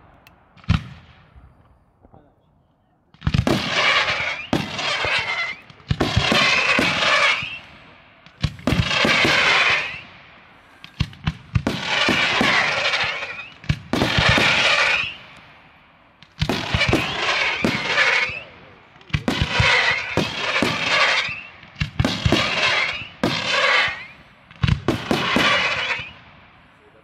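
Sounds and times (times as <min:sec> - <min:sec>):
fireworks sharp bangs: 0:00.0 - 0:02.3, 0:03.1 - 0:27.0
fireworks crackling: 0:03.2 - 0:27.0.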